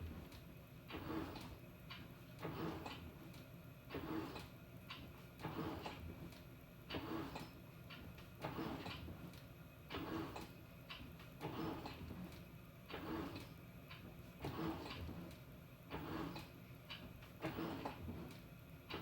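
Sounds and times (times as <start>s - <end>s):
washing machine churning laundry: 0.0s - 19.0s.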